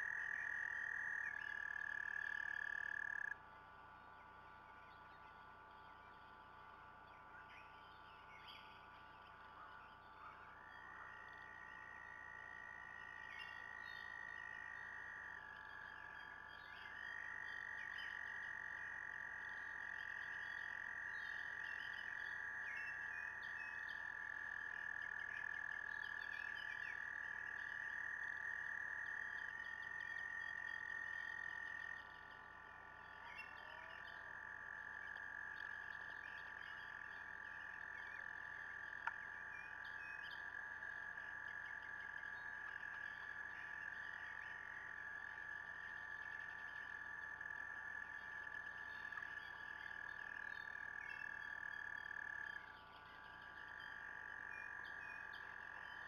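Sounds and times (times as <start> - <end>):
faint bird chirps: 0.0 - 3.4, 4.0 - 56.0
frogs trilling: 0.0 - 56.0.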